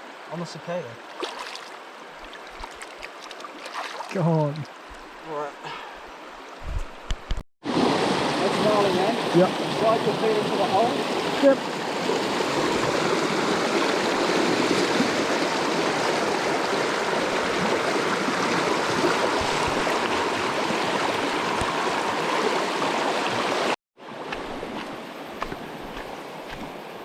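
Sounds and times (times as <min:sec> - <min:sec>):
river water rushing: 0:01.0 - 0:06.6, 0:07.6 - 0:27.0.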